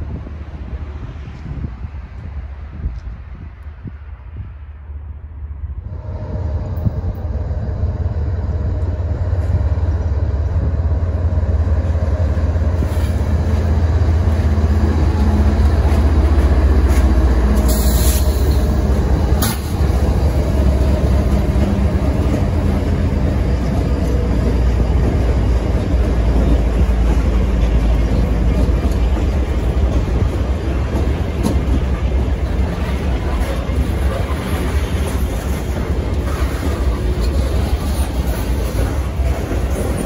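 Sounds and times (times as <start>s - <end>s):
diesel locomotive engine rumble: 0.0s - 40.0s.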